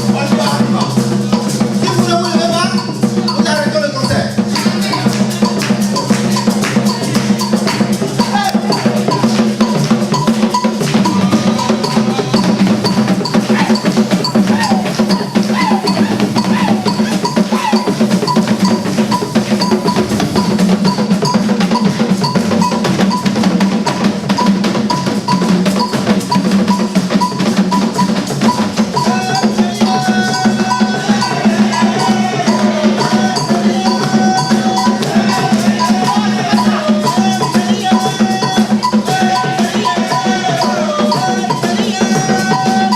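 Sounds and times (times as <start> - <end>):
fast drumming and percussion: 0.0 - 42.9
higher melodic line: 0.0 - 42.9.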